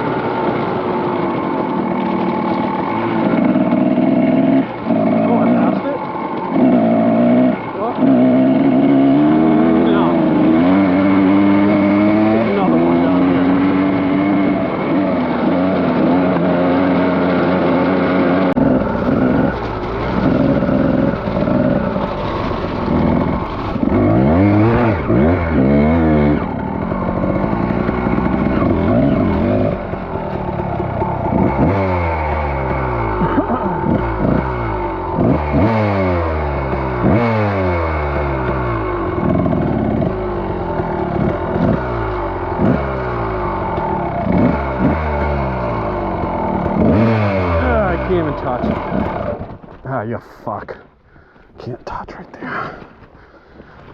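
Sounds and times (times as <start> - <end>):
dirt bike engine revving: 0.0 - 50.1.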